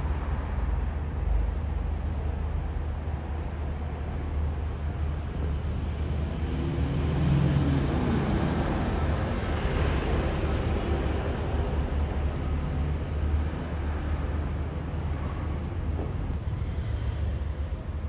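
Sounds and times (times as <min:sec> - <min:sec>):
bus driving past: 0:00.0 - 0:18.0
low traffic rumble: 0:00.0 - 0:18.0.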